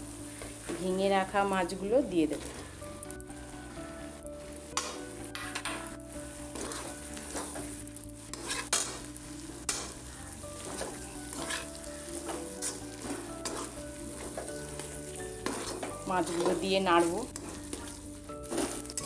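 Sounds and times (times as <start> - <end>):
spatula scraping a pan: 0.0 - 1.4, 2.0 - 3.8, 4.7 - 19.0
frying sizzle: 0.0 - 19.0.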